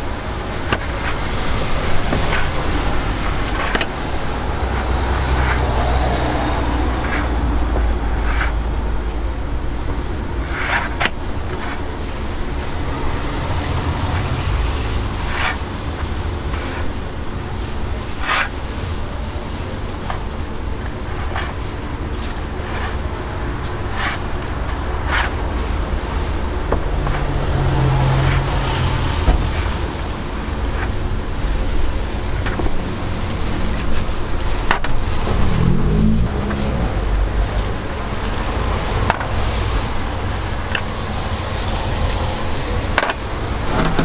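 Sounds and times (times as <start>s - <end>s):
street traffic noise: 0.0s - 44.0s.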